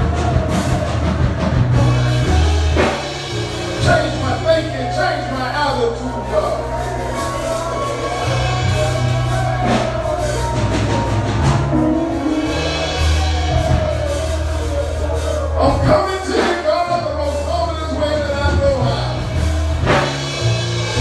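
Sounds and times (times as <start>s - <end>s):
keyboard bass and chords: 0.0s - 21.0s
people singing: 0.0s - 21.0s.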